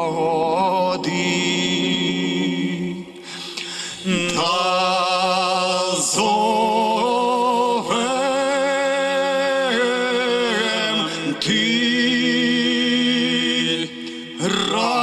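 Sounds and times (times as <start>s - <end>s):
men singing a slow chant: 0.0s - 15.0s.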